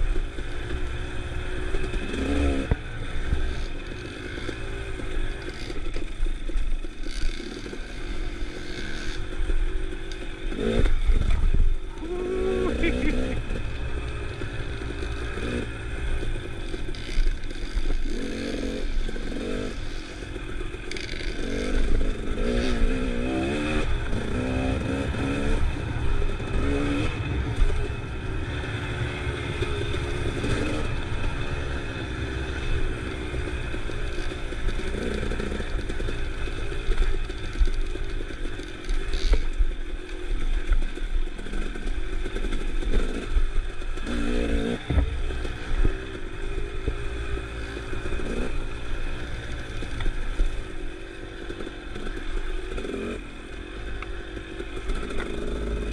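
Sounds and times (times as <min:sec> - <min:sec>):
off-road engine revving: 0:00.0 - 0:55.9.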